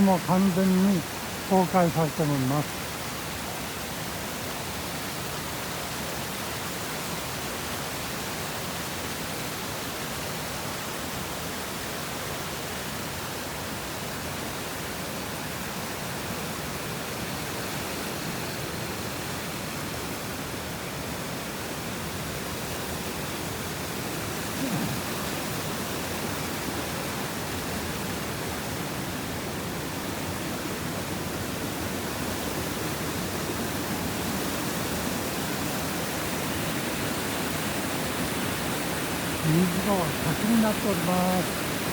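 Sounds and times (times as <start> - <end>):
rushing storm runoff water: 0.0 - 41.9.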